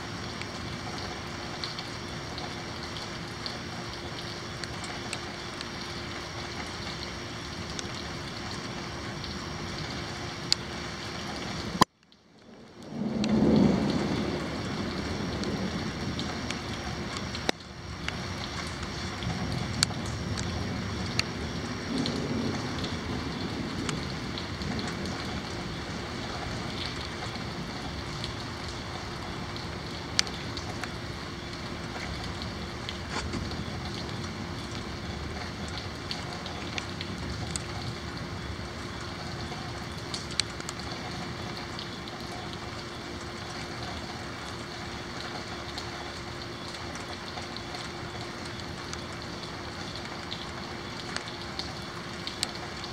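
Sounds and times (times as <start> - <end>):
raindrops ticking close by: 0.0 - 52.9
steady rain: 0.0 - 52.9.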